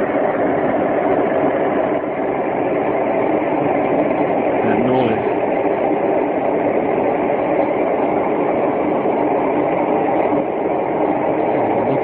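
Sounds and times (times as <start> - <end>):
loud droning rumble: 0.0 - 12.0.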